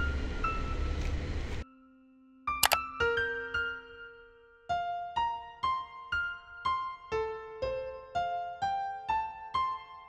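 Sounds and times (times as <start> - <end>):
slow piano melody: 0.0 - 10.0.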